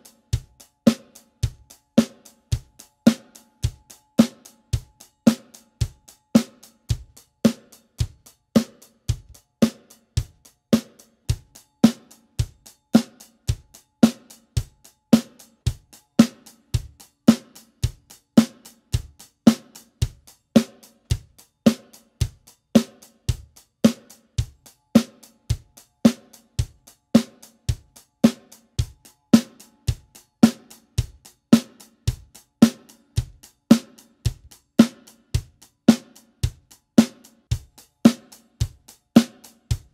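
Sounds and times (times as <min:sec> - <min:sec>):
drum kit steady beat: 0:00.0 - 0:39.9.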